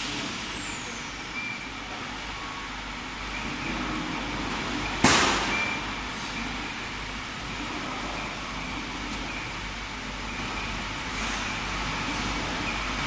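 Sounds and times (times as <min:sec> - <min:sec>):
laser cutter fans whirring: 0:00.0 - 0:13.0.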